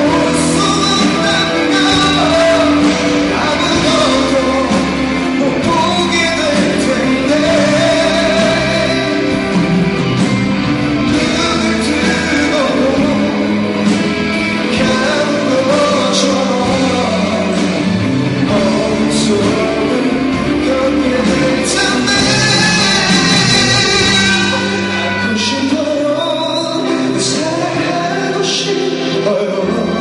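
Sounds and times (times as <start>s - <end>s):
man singing into microphone: 0.0s - 10.1s, 10.9s - 30.0s
band accompaniment: 0.0s - 30.0s.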